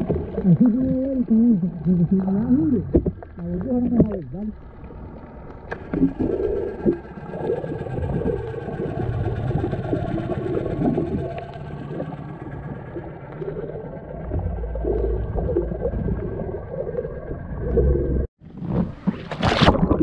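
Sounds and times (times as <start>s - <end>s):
outboard motor heard underwater: 0.0s - 20.0s.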